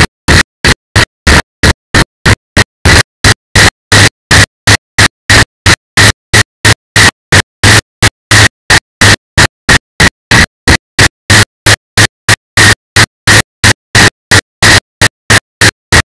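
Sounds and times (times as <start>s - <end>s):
harsh chopped noise bursts: 0.0s - 16.0s.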